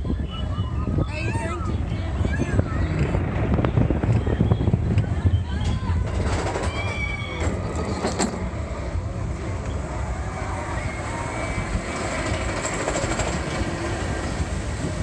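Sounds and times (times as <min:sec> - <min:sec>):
roller coaster train rumbling: 0:00.0 - 0:15.0.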